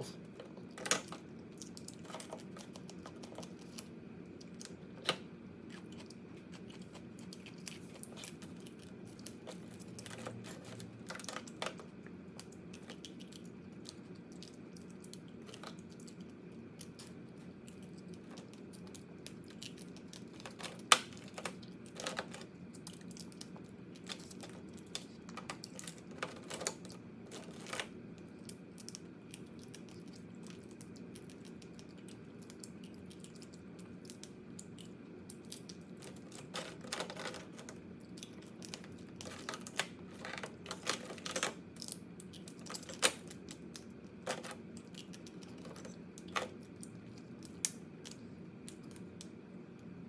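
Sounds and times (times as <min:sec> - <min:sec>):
crab shells cracking: 0:05.8 - 0:49.3.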